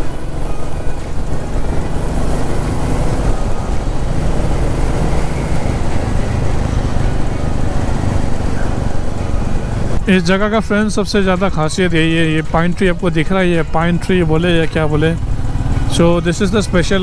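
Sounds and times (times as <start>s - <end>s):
motorcycle engine running: 0.0s - 17.0s
road and wind rush: 0.0s - 17.0s.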